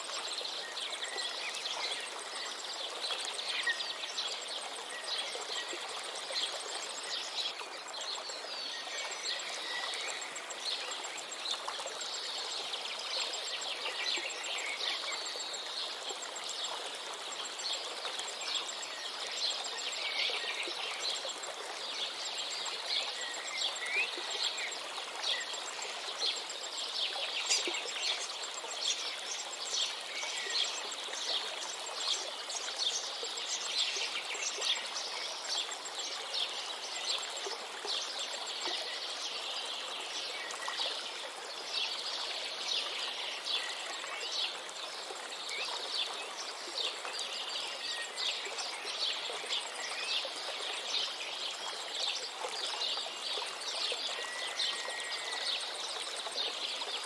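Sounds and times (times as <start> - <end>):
river running: 0.0 - 57.0.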